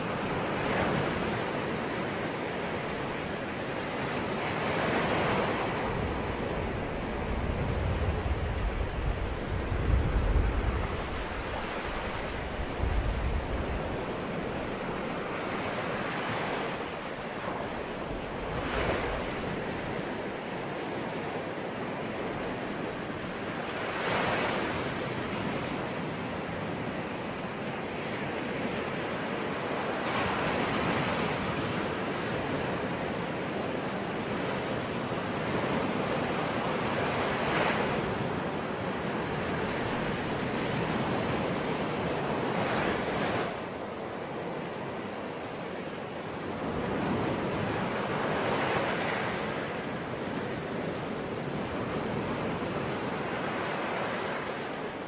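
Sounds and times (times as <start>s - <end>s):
light wind: 0.0s - 55.0s
sea waves breaking on shore: 0.0s - 55.0s.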